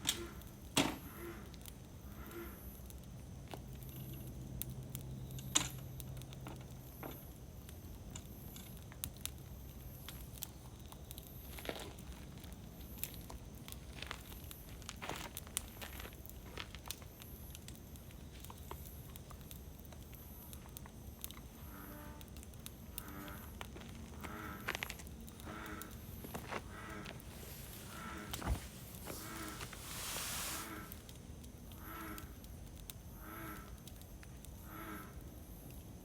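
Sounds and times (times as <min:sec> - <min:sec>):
campfire crackling and popping: 0:00.4 - 0:36.0.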